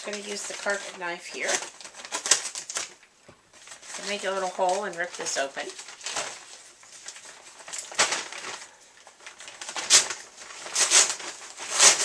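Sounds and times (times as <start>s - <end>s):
package tearing open: 0.0s - 3.0s, 3.6s - 12.0s.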